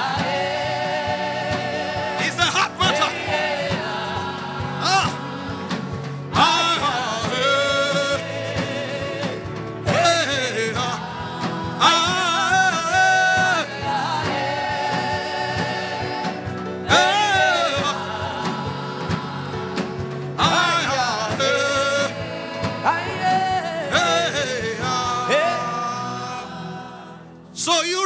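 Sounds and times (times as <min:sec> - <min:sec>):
gospel singing voice: 0:00.0 - 0:28.0
instrumental backing: 0:00.0 - 0:28.0.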